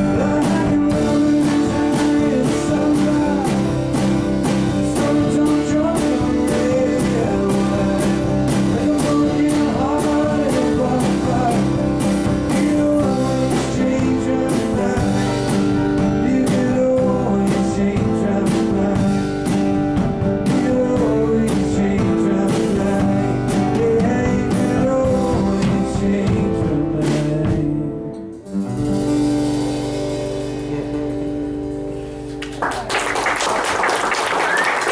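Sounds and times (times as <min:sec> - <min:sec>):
person singing: 0:00.0 - 0:19.8, 0:20.4 - 0:28.4, 0:30.5 - 0:32.3
live band playing: 0:00.0 - 0:33.3
guitar: 0:00.0 - 0:34.9.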